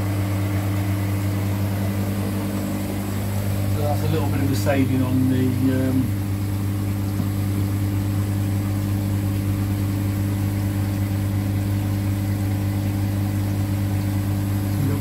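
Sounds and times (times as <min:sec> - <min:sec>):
electric pump motor humming: 0:00.0 - 0:15.0.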